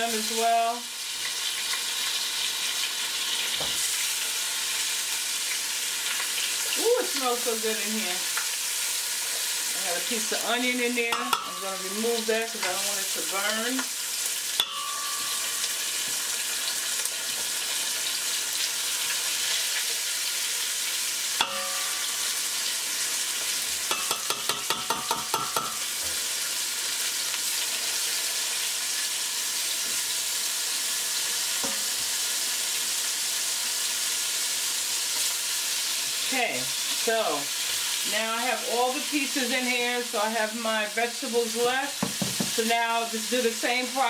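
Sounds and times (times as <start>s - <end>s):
wings sizzling in hot oil: 0.0s - 44.0s.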